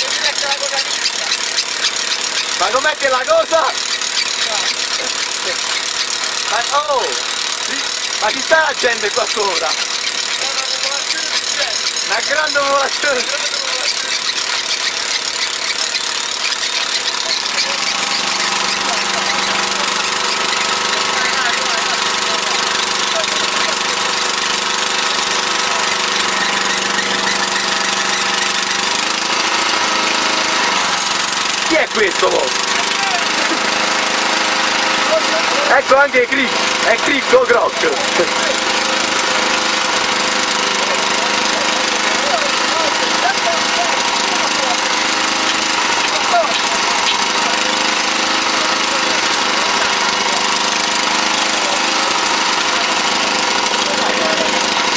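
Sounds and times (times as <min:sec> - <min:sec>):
small engine rattling: 0:00.0 - 0:54.9.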